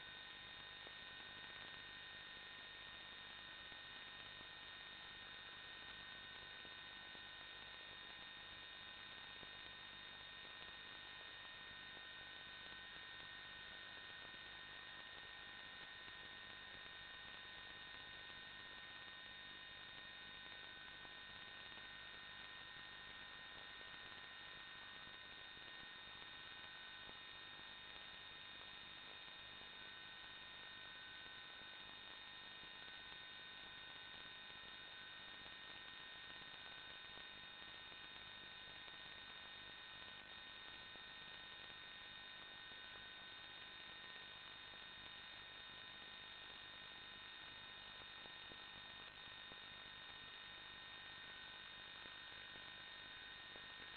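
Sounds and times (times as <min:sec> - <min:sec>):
electrical hum and hiss: 0:00.0 - 0:53.9.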